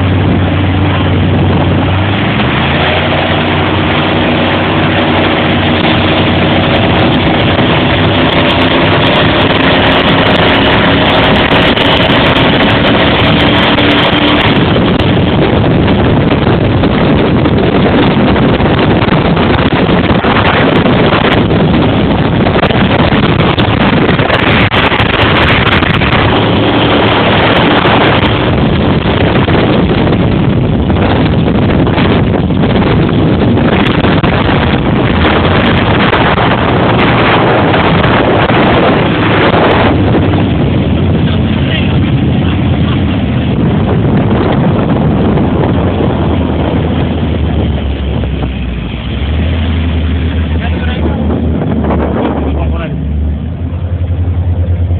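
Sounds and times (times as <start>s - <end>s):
motorboat engine drone: 0.0s - 54.9s
wind buffeting on microphone: 0.0s - 54.9s.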